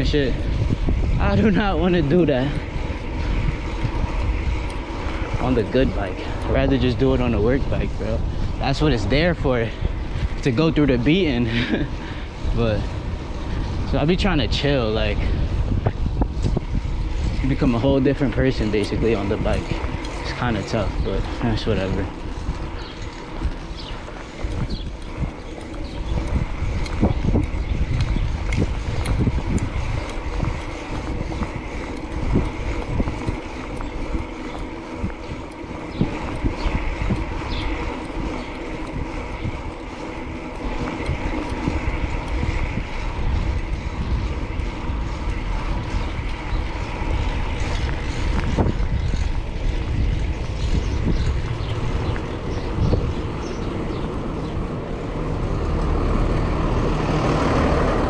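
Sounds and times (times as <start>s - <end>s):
passing vehicles humming: 0.0s - 58.0s
wind buffeting microphone: 0.0s - 58.0s.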